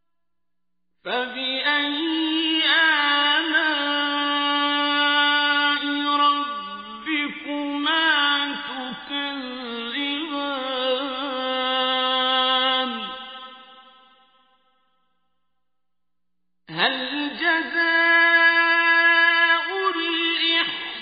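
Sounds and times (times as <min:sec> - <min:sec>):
solo voice chanting: 0:01.1 - 0:14.2, 0:16.7 - 0:21.0.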